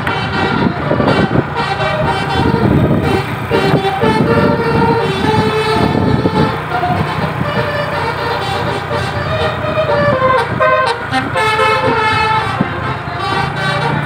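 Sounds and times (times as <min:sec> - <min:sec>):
bus engine rumble: 0:00.0 - 0:14.0
bus horn playing a tune: 0:00.0 - 0:14.0.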